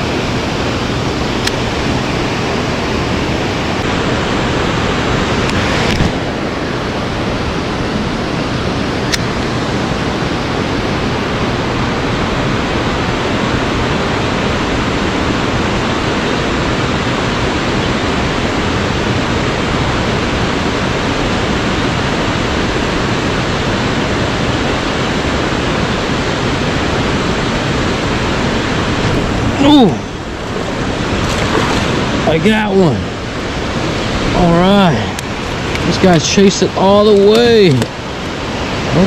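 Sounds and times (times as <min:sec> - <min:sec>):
water rushing from spillway: 0:00.0 - 0:39.0.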